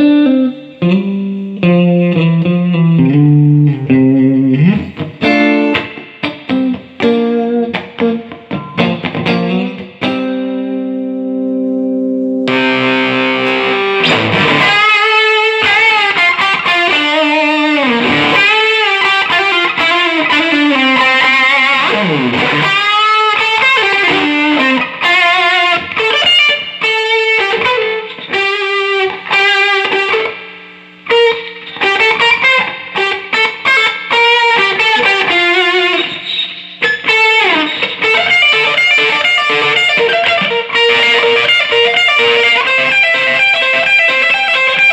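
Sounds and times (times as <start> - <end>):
electric guitar through tube amp: 0.0 - 44.9.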